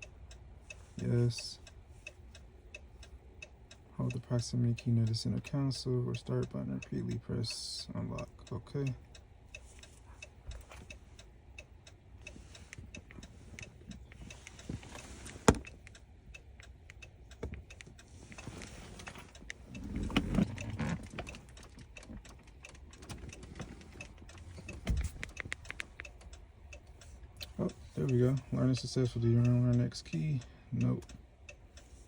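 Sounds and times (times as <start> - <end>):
hazard-light flasher ticking: 0.0 - 32.0.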